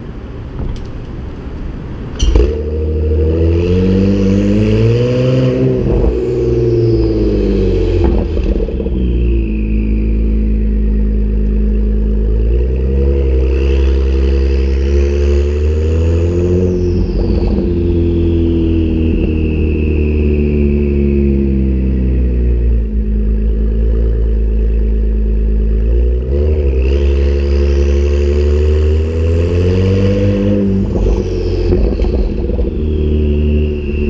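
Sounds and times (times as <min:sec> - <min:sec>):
faint high turbo whine: 0:00.0 - 0:34.0
exhaust crack: 0:00.4 - 0:34.0
sports car engine pulling away: 0:02.2 - 0:34.0.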